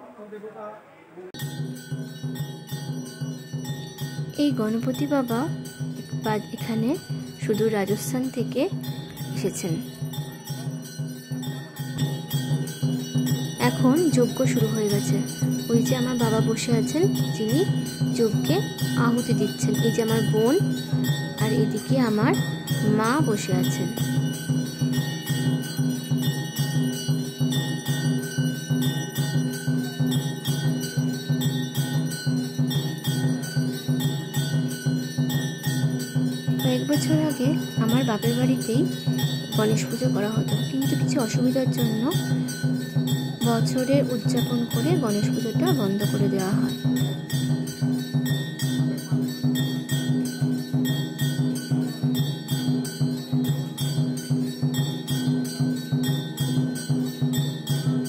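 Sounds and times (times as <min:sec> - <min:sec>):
ringing bells: 0:01.4 - 0:58.0
steel drum struck rhythmically: 0:01.4 - 0:58.0.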